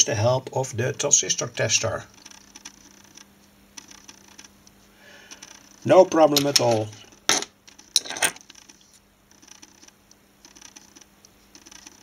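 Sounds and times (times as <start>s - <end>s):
faint clicks and rustling: 2.1s - 12.0s.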